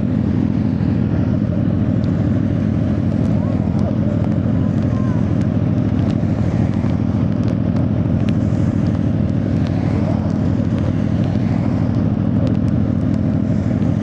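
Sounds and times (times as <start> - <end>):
motorcycle engine running steadily: 0.0 - 14.0.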